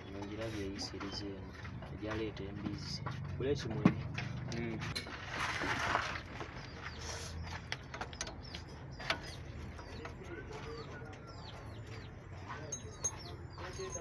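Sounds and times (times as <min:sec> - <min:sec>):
birds chirping softly: 0:00.0 - 0:14.0.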